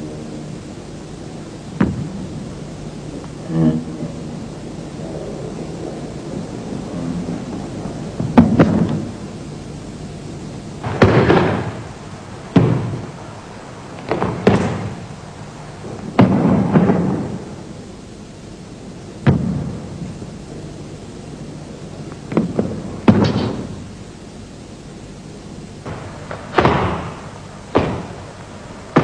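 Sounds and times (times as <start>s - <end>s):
tape hiss: 0.0s - 29.0s.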